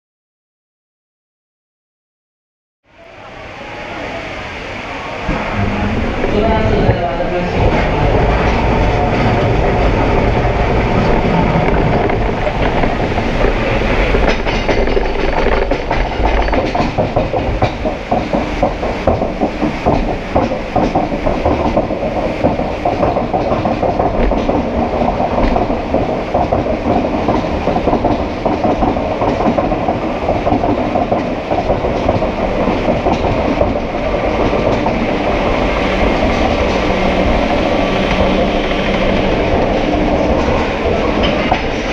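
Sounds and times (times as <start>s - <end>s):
roller coaster car rumbling: 2.9s - 41.9s.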